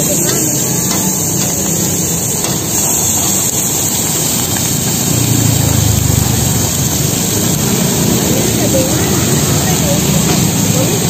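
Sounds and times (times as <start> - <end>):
blowtorch flame hissing: 0.0 - 11.0
seafood sizzling on a griddle: 0.0 - 11.0
low rumble: 1.1 - 10.3.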